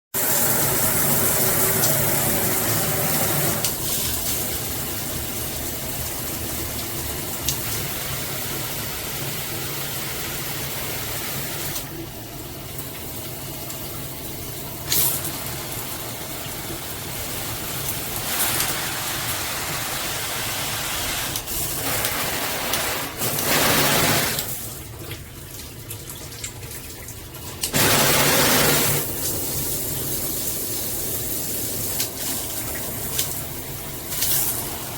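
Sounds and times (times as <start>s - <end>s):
shower water spraying: 0.2s - 11.9s, 12.7s - 25.7s, 27.6s - 34.9s.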